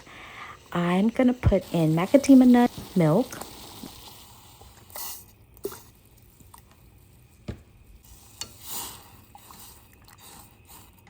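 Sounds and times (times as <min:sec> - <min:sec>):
faint sizzling: 0:00.0 - 0:11.0.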